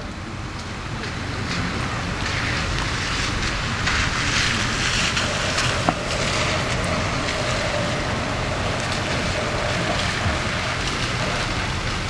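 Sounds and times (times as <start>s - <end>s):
steady background hiss: 0.0s - 12.0s
tyres splashing through water: 0.3s - 12.0s.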